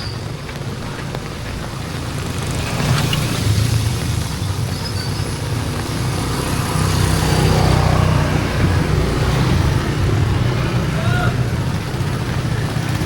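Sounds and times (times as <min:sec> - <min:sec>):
rain hissing: 0:00.0 - 0:13.0
vehicle engine rumbling: 0:00.0 - 0:13.0.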